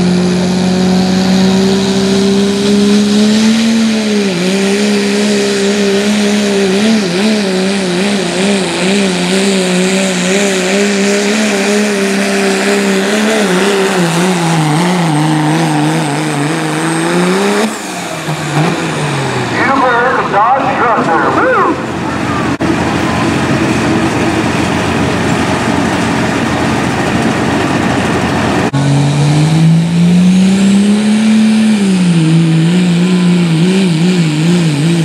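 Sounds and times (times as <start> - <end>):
diesel engine at full throttle: 0.0 - 35.0.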